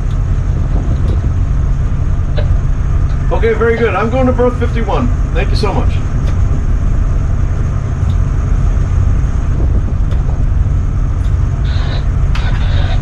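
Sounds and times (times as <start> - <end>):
tugboat engines droning: 0.0 - 13.0
wind buffeting microphone: 0.0 - 13.0.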